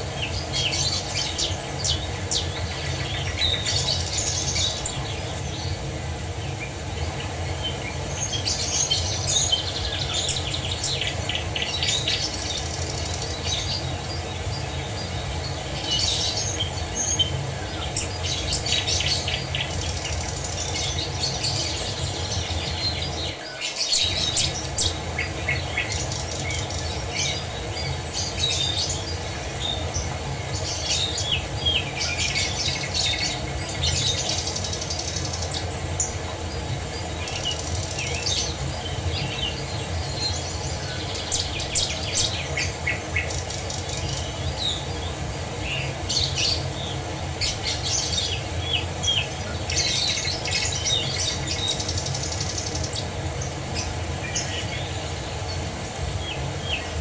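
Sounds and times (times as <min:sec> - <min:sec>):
rush of falling water: 0:00.0 - 0:57.0
songbirds chirping and trilling: 0:00.0 - 0:57.0.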